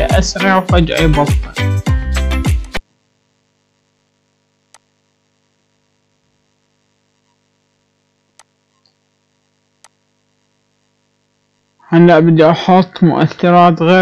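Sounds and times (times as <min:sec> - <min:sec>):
faint electrical hum: 0:02.8 - 0:14.0.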